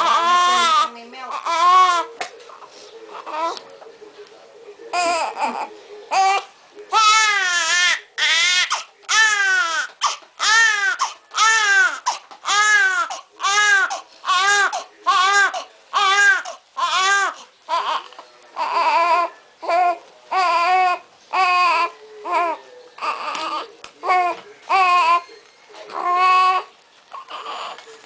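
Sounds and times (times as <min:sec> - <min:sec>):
newborn baby crying: 0:00.0 - 0:03.6, 0:04.9 - 0:25.3, 0:25.9 - 0:27.9.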